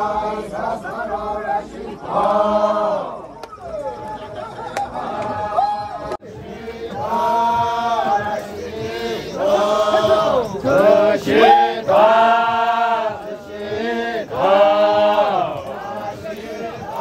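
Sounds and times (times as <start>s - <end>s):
men chanting in unison: 0.0s - 3.2s, 6.2s - 17.0s.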